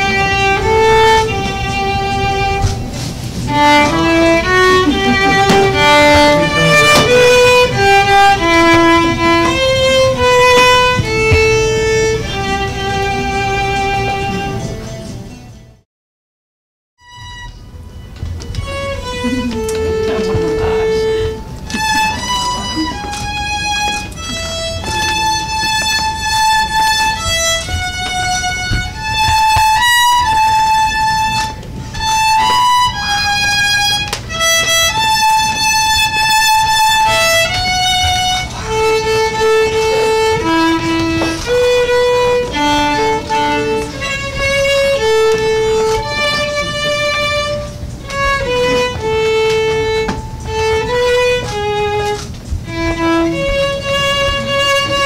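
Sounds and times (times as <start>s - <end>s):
solo violin melody: 0.0s - 15.1s, 17.0s - 55.0s.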